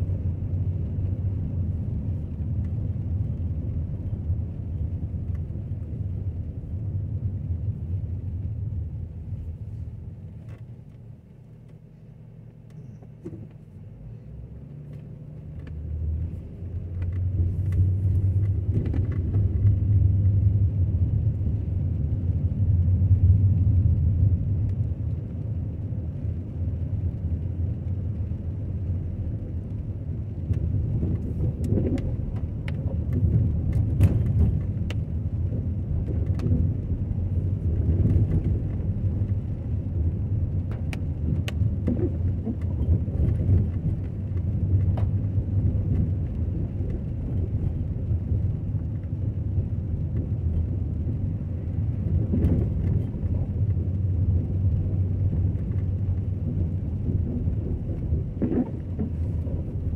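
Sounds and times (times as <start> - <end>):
car driving on wet road: 0.0 - 59.9.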